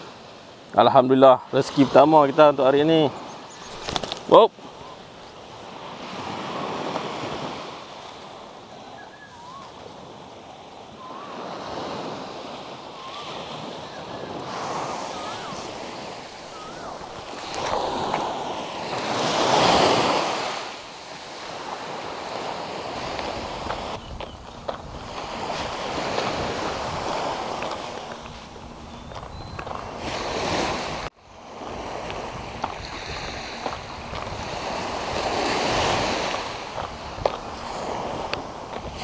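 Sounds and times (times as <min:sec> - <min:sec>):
waves washing up beach: 0:00.0 - 0:39.0
wind on microphone: 0:03.5 - 0:39.0.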